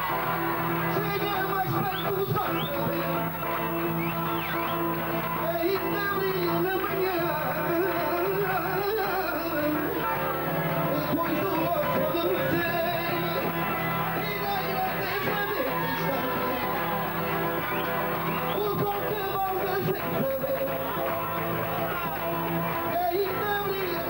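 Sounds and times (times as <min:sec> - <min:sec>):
guitar accompaniment: 0:00.0 - 0:24.0
person singing: 0:00.0 - 0:24.0.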